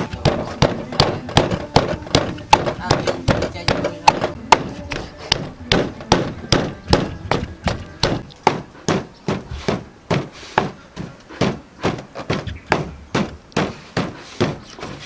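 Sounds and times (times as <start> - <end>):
pestle pounding in wooden mortar: 0.0 - 15.0.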